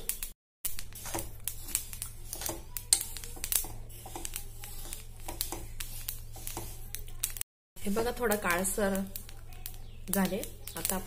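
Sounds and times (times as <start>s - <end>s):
seeds crackling in a pan: 0.0s - 11.0s
steel spoon stirring: 0.0s - 11.0s.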